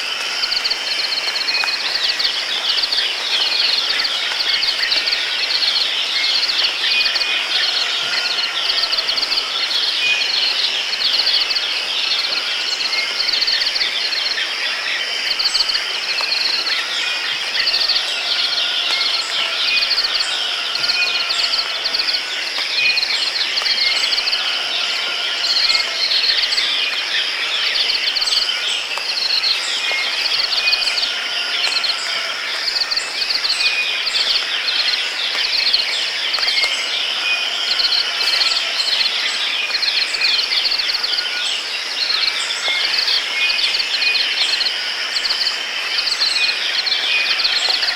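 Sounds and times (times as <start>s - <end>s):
insects chirping: 0.0s - 47.9s.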